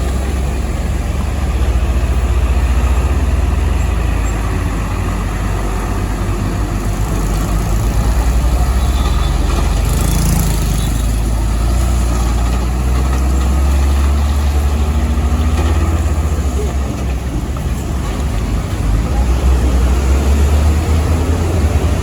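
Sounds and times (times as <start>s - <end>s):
truck diesel engines rumbling: 0.0s - 22.0s.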